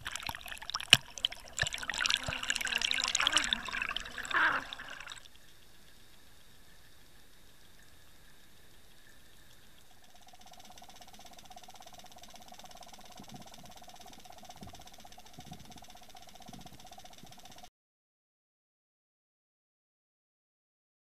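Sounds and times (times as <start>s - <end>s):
underwater mechanical whine with ticking: 0.0s - 17.7s.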